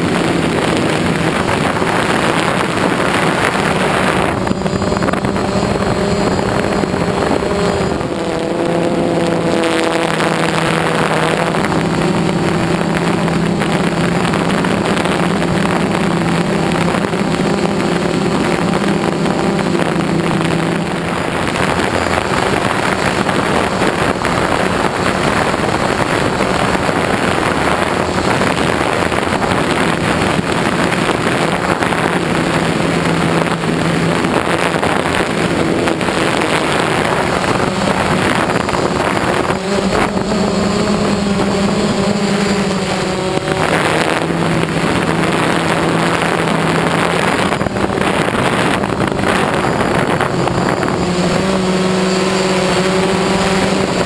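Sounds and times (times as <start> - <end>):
drone motors and propellers droning: 0.0 - 54.0
wind rushing over microphone: 0.0 - 54.0.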